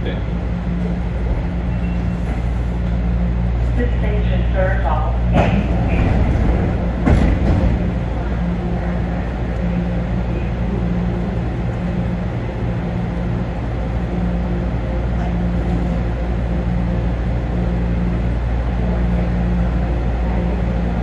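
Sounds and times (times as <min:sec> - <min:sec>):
low droning tone: 0:00.0 - 0:21.0
people-mover car hum: 0:00.0 - 0:21.0.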